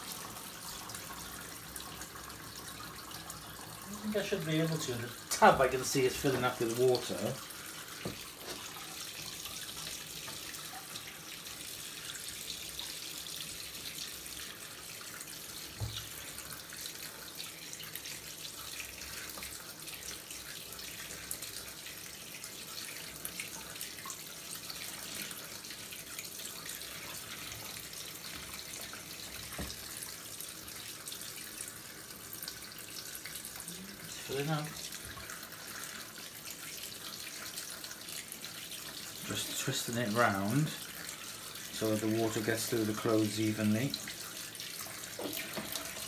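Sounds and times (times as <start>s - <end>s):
water running into plastic tub: 0.0s - 46.0s.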